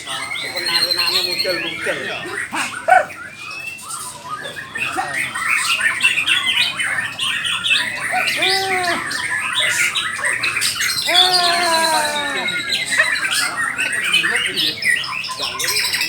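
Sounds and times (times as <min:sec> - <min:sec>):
songbirds whistling and chirping: 0:00.0 - 0:16.0.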